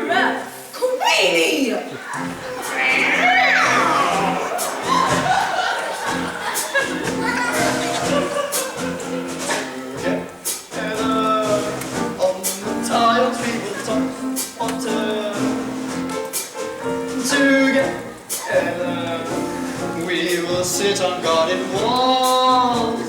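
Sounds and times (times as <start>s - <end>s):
light percussion: 2.2s - 23.0s
voices singing over music: 2.2s - 23.0s.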